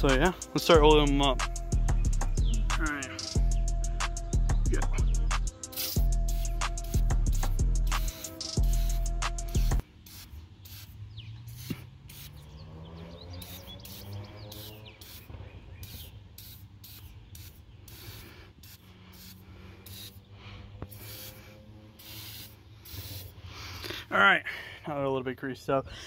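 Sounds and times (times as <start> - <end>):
aerosol can hissing sprays: 0.0 - 12.6, 13.4 - 23.9.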